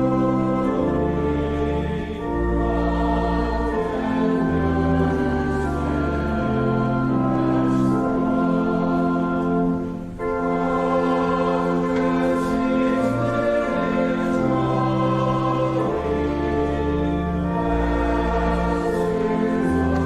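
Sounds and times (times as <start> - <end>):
organ chords: 0.0 - 20.0
voices singing a hymn: 0.0 - 20.0.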